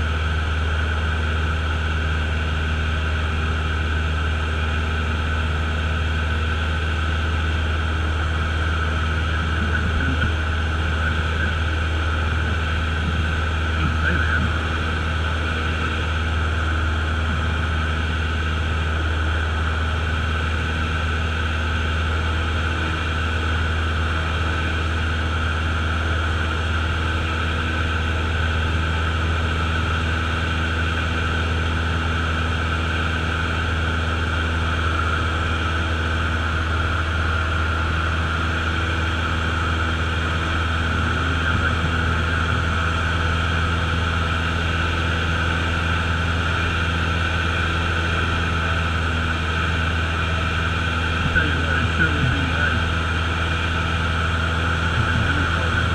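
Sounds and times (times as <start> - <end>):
propeller plane engine droning: 0.0 - 55.9.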